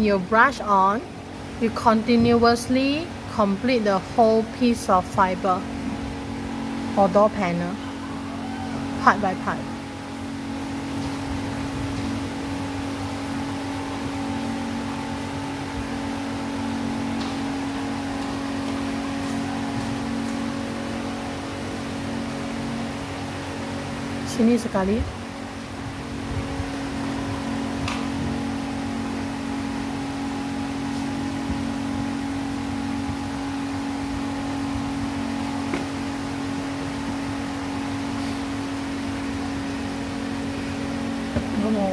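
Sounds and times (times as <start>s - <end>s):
steady machine hum: 0.0s - 41.9s.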